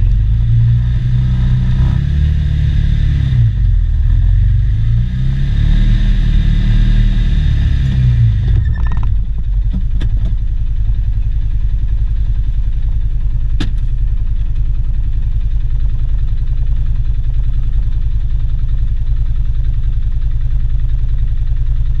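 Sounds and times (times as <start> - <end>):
engine idling: 0.0 - 5.5, 6.2 - 22.0.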